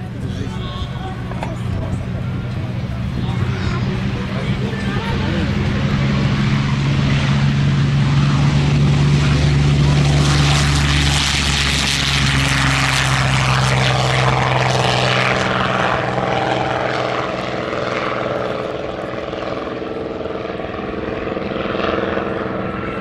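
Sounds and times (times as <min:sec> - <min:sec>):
aircraft piston engine at full power: 0:00.0 - 0:23.0
propeller noise: 0:00.0 - 0:23.0.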